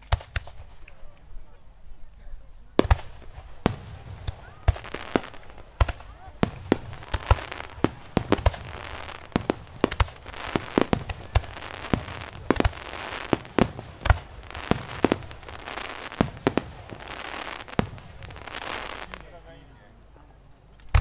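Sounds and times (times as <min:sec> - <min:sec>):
fireworks bangs: 0:00.0 - 0:21.0
fireworks crackling hiss: 0:00.0 - 0:21.0.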